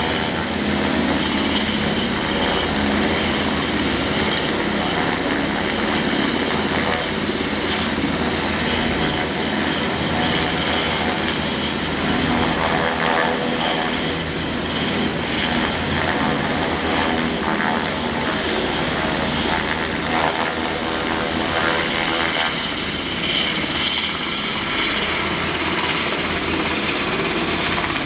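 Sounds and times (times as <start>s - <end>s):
helicopter engines whining: 0.0s - 28.0s
helicopter rotor beating: 0.0s - 28.0s.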